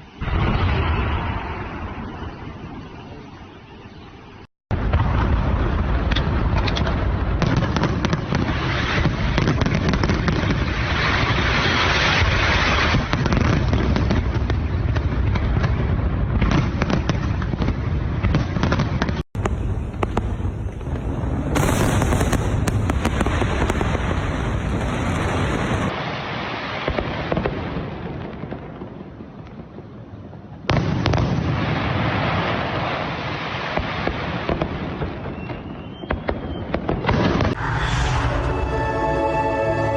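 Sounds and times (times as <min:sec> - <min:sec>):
fireworks bangs and crackles: 0:00.0 - 0:03.5, 0:04.7 - 0:37.6.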